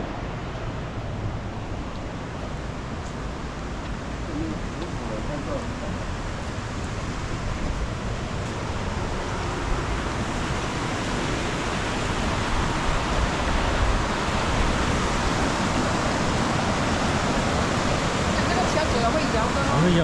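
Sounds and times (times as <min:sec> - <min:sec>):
waterfall rushing water: 0:00.0 - 0:20.0.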